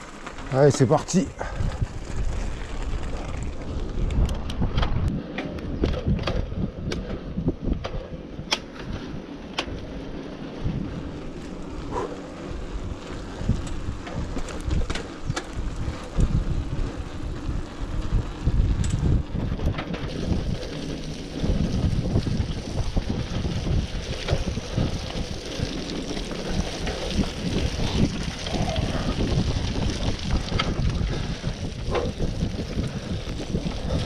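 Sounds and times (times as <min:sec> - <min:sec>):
wind rumble on microphone: 0:00.0 - 0:34.0
bike clicks and knocks: 0:01.9 - 0:10.2, 0:11.0 - 0:34.0.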